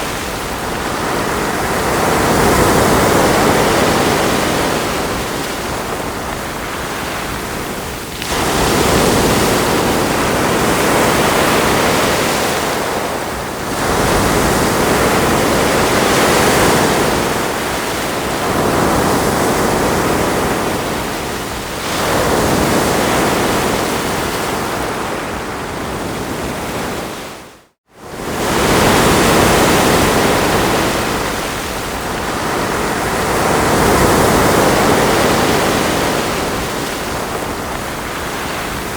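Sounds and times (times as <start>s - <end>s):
ocean waves on shore: 0.0s - 38.9s.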